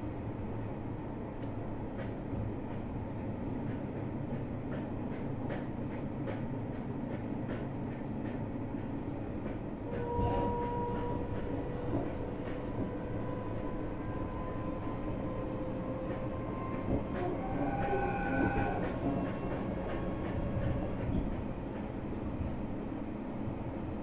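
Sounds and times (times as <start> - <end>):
train wheels rumbling on rail: 0.0 - 24.0
rail joint clicks: 1.4 - 22.7.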